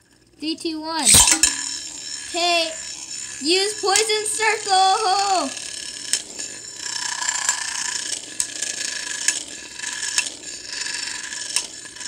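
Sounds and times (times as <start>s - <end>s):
spinning tops whirring in a pan: 0.0s - 12.0s
spinning tops clicking together: 1.0s - 11.8s.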